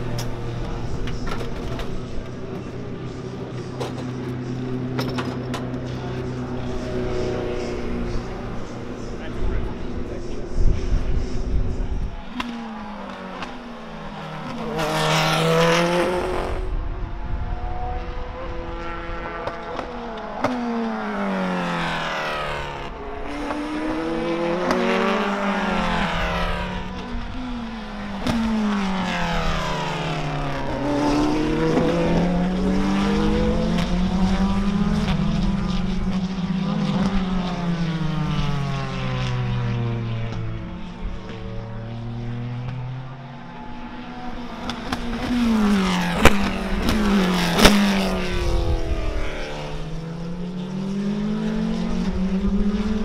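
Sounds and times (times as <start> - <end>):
race cars passing at speed: 0.0 - 53.0.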